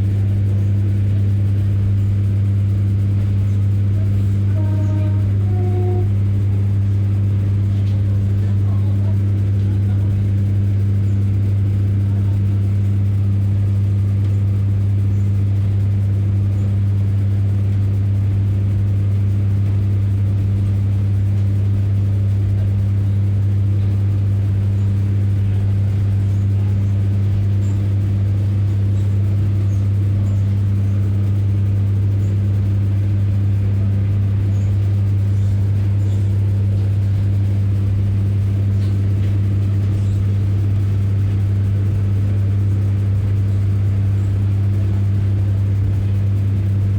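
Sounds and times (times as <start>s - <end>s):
railcar diesel engine droning: 0.0s - 46.9s.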